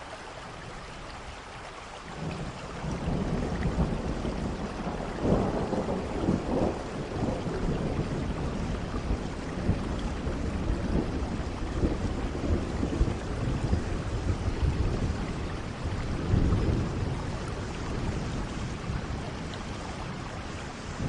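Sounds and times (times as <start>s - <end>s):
steady rain: 0.0s - 21.0s
rolling thunder: 2.2s - 21.0s.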